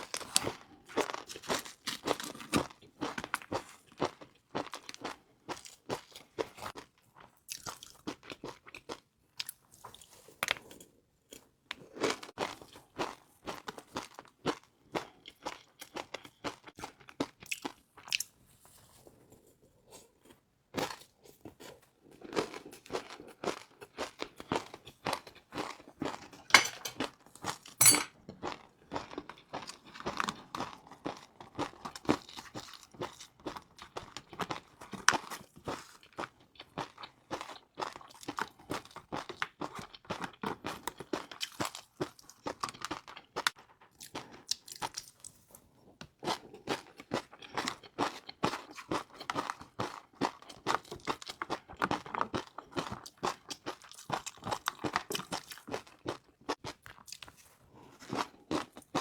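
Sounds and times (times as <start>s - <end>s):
crunching and chewing noodles: 0.0s - 59.0s.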